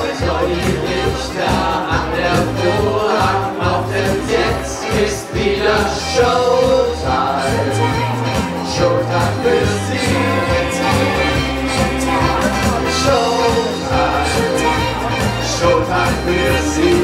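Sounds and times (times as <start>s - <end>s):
amplified backing music: 0.0s - 17.0s
group singing into microphones: 0.0s - 17.0s.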